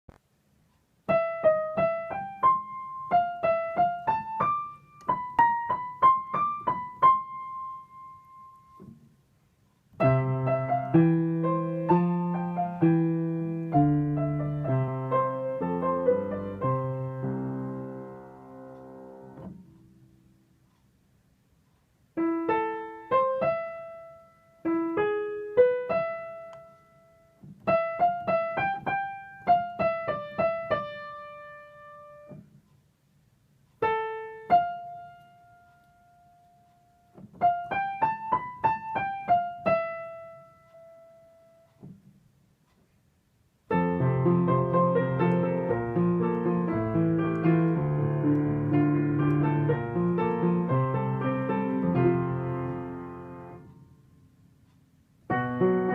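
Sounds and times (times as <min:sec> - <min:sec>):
piano chords: 0:01.0 - 0:09.1, 0:10.0 - 0:20.4, 0:22.1 - 0:32.4, 0:33.8 - 0:41.7, 0:43.7 - 0:54.3, 0:55.2 - 0:55.9.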